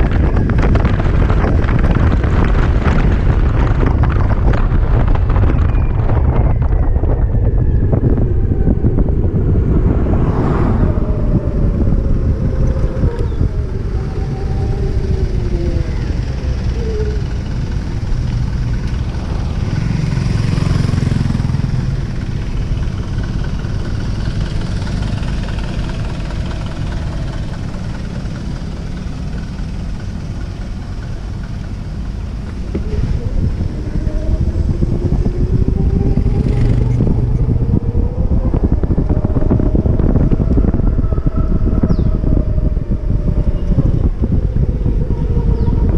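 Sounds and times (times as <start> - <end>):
passing vehicle rumble: 0.0 - 45.9
wind buffeting microphone: 0.0 - 45.9.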